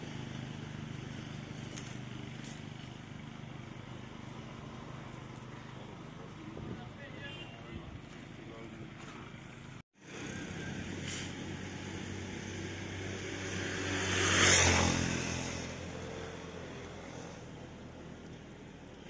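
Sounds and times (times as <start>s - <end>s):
vehicle passing on road: 0.0s - 19.0s.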